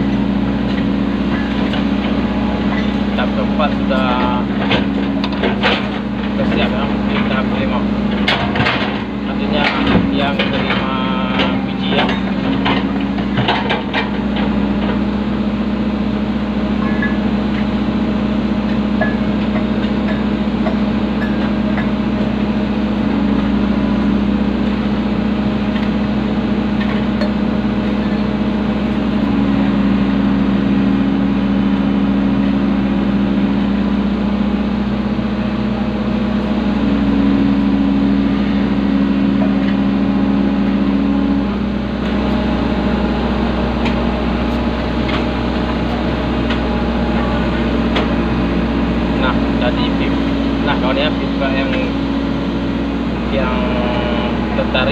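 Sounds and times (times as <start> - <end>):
diesel engine running: 0.0 - 54.9
higher engine tone under load: 0.0 - 54.9.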